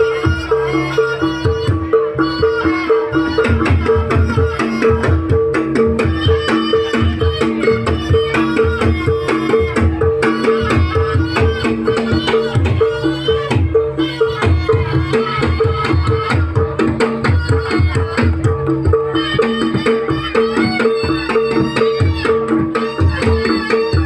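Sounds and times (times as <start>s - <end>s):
pitched metal percussion: 0.0s - 24.0s
rapid hand drum strokes: 1.0s - 24.0s.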